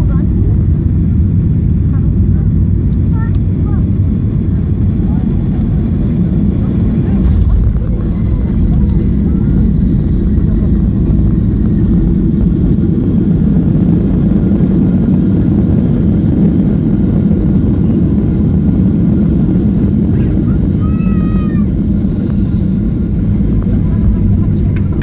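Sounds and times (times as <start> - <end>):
airplane rumble on runway: 0.0 - 25.0.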